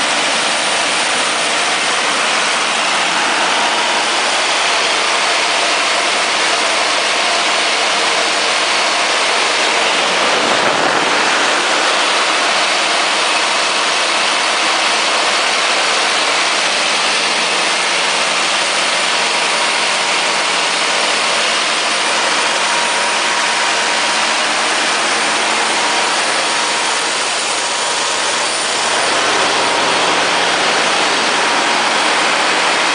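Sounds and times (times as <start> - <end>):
diesel generator running: 0.0 - 32.9.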